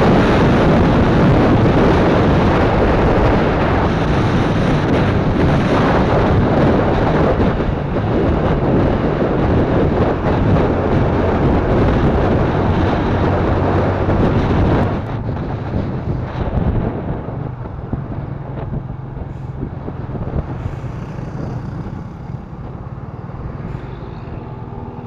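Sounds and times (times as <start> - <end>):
wind rushing over microphone: 0.0 - 25.0
motorcycle engine running: 0.2 - 25.0.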